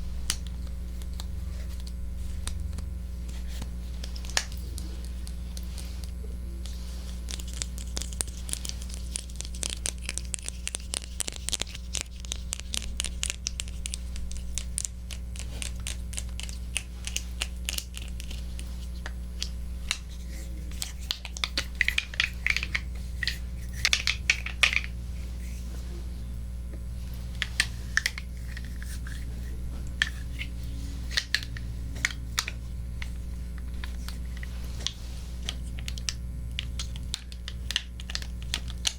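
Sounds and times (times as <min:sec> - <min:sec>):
crackling and scratching: 0:00.2 - 0:38.9.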